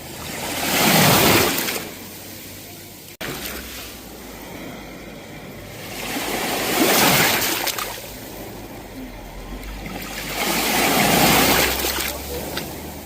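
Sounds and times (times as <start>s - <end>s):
sea waves washing onto shore: 0.0s - 13.0s.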